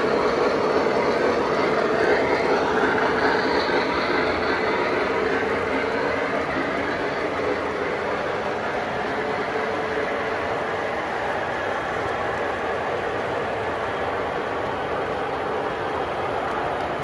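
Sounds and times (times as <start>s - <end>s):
model train wheels on rails: 0.0s - 17.0s.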